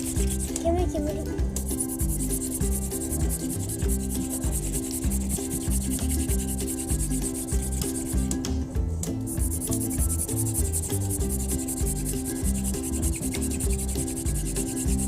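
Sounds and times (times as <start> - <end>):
wooden hand drill rubbing: 0.0 - 0.7, 1.6 - 8.4, 9.2 - 15.0
background music with bass line: 0.0 - 15.0.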